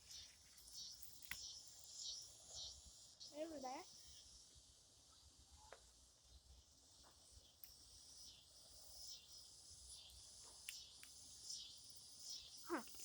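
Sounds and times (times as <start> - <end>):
crickets chirring: 0.0 - 5.2, 5.9 - 13.0.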